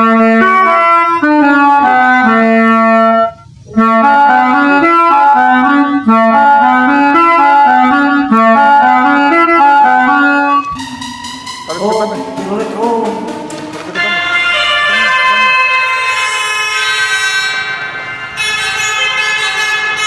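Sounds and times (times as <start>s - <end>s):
reedy wind instrument melody: 0.0s - 20.0s.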